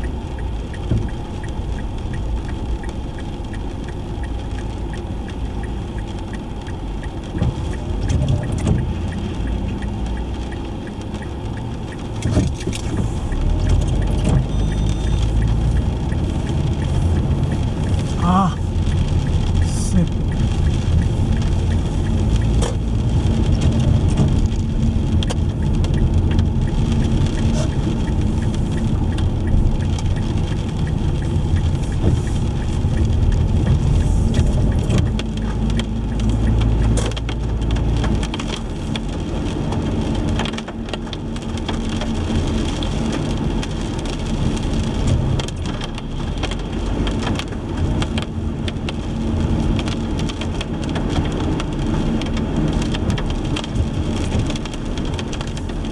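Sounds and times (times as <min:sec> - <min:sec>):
rain striking a car: 0:00.0 - 0:55.9
road and engine rumble: 0:00.0 - 0:55.9.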